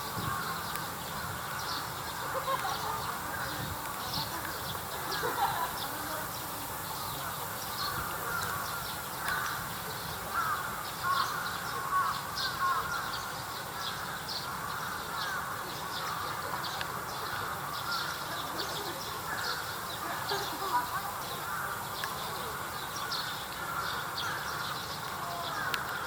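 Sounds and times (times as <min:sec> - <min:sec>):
birds calling and chirping: 0:00.0 - 0:26.0.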